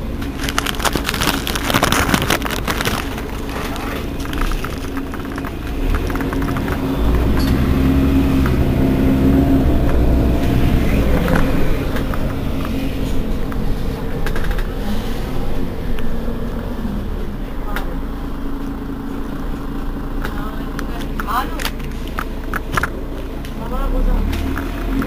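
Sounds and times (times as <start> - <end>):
bus engine running: 0.0 - 25.0.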